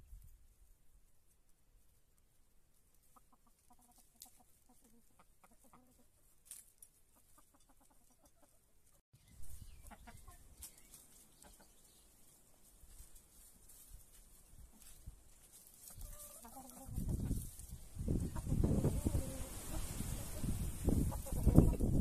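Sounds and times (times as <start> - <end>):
chickens clucking: 2.9 - 22.0.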